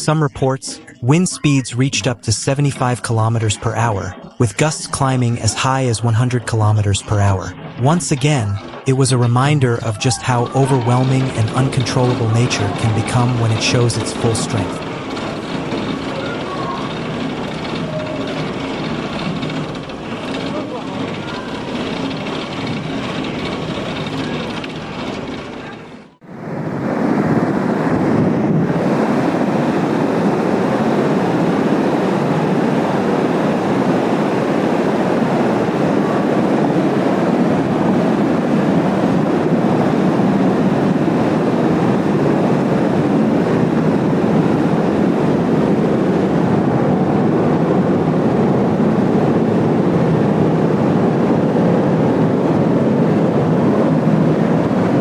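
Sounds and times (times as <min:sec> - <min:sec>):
loud steady rushing noise: 0:00.0 - 0:55.0.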